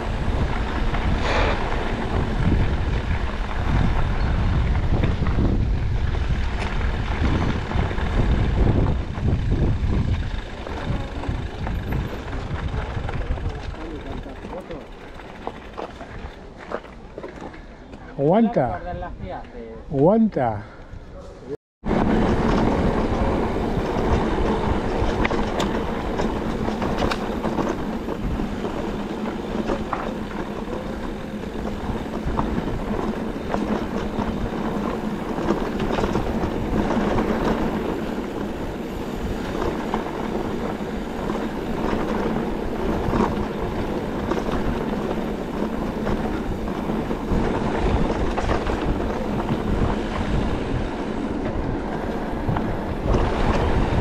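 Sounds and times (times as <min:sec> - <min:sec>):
bike tyres rattling on trail: 0:00.0 - 0:18.8, 0:21.8 - 0:54.0.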